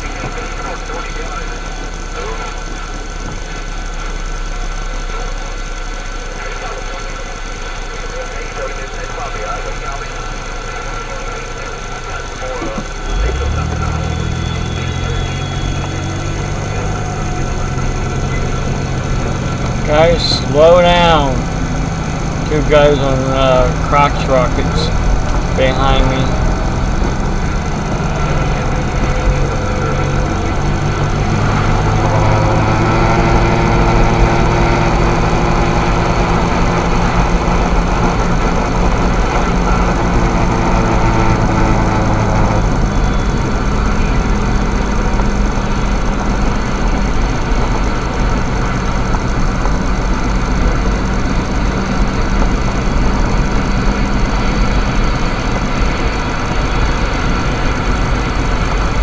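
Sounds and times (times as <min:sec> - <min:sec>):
road noise inside vehicle: 0:00.0 - 0:59.0
steady engine drone: 0:00.0 - 0:59.0.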